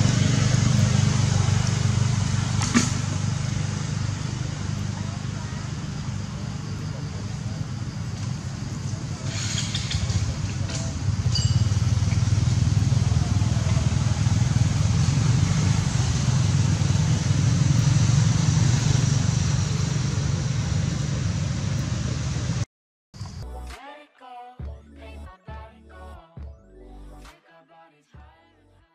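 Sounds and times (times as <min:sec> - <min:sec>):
low outdoor rumble: 0:00.0 - 0:23.6.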